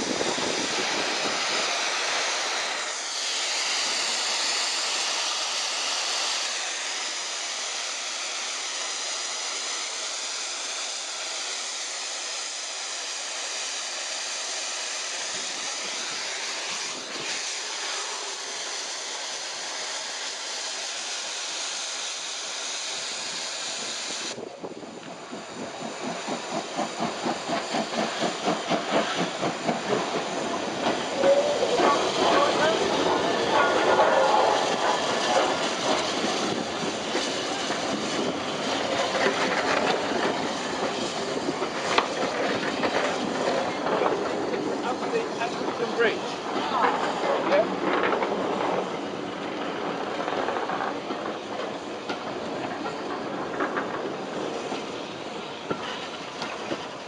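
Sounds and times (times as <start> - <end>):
steam hissing: 0.0 - 57.0
steam locomotive chuffing: 0.0 - 57.0.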